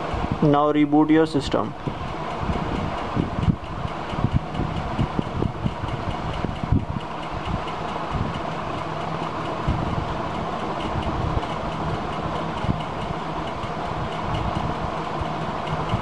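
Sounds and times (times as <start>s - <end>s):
low mechanical hum: 0.0s - 16.0s
faint regular ticking: 2.0s - 16.0s.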